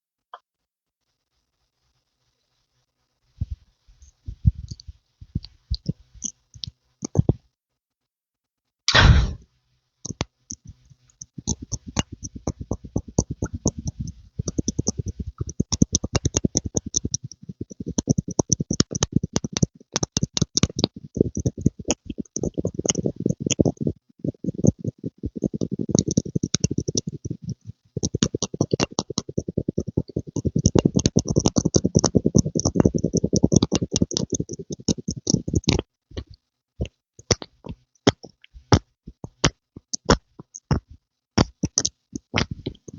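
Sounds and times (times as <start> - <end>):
soft pumping clicks with thuds: 3.4 - 7.4, 10.1 - 42.9.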